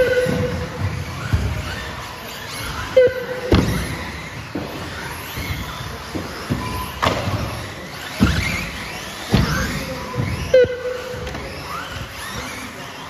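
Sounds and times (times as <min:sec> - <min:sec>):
toy car motors whining: 0:00.0 - 0:13.0.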